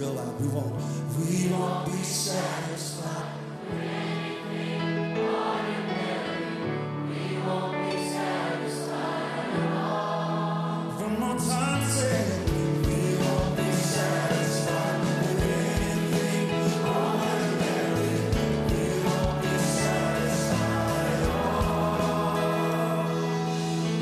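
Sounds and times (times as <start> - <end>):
worship band playing: 0.0 - 24.0
crowd singing along: 1.1 - 24.0.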